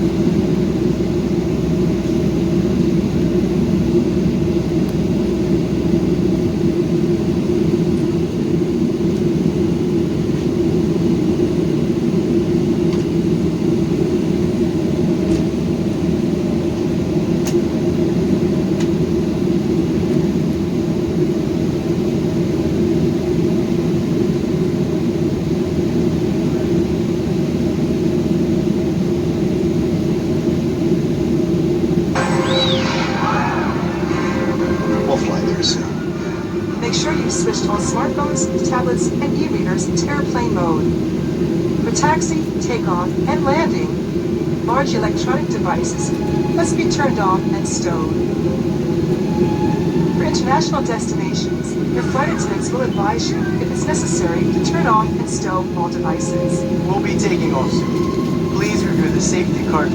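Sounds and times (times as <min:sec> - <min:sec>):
jet engine cabin drone: 0:00.0 - 0:59.9.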